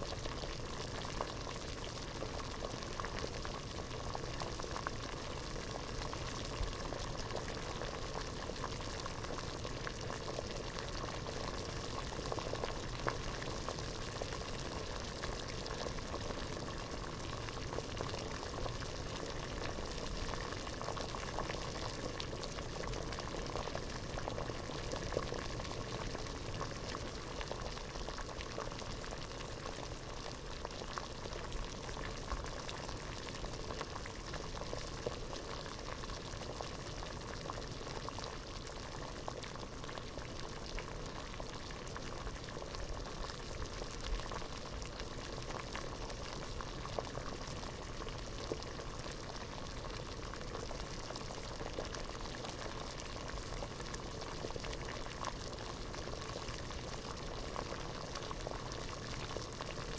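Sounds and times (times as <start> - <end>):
water boiling in a pot: 0.0 - 59.9.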